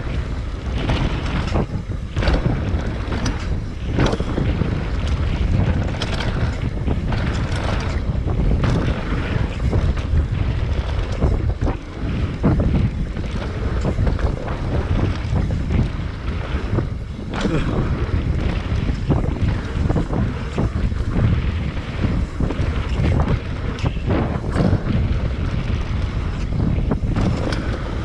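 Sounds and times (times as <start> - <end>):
bike knocking and rattling: 0.0 - 28.0
wind buffeting microphone: 0.0 - 28.0.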